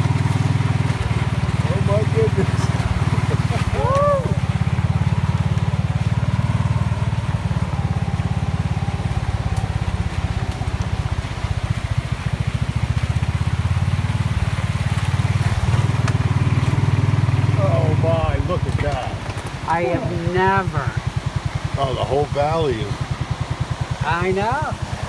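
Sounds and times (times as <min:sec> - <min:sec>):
vehicle engine throbbing: 0:00.0 - 0:25.0.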